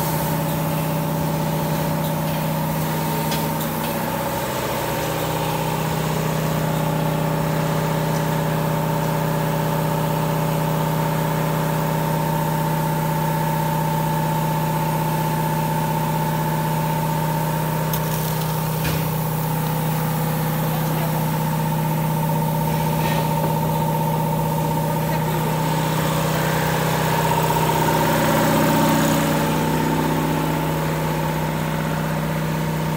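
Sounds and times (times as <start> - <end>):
machine humming with whine: 0.0 - 32.9.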